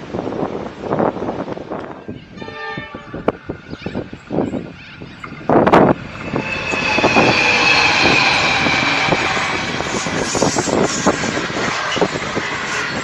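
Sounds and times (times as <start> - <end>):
train passing close by: 0.0 - 13.0.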